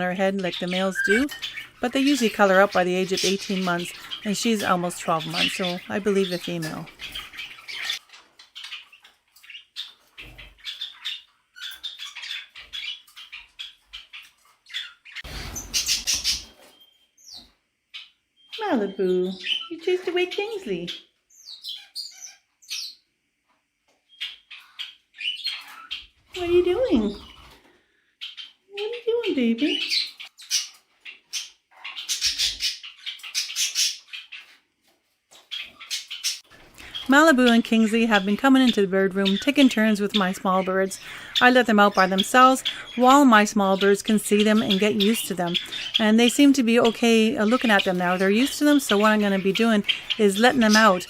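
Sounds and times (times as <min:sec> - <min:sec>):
parrots chirping and squawking: 0:00.0 - 0:51.0.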